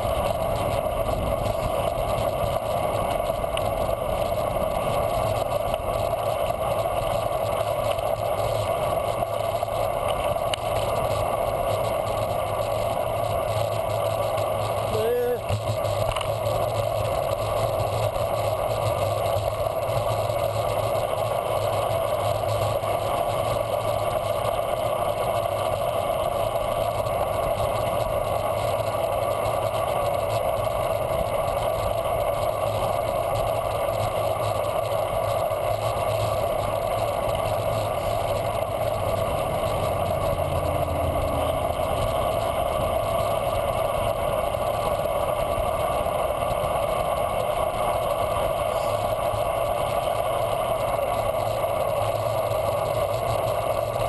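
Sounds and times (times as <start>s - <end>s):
bicycle tyres on pavement: 0.0s - 54.0s.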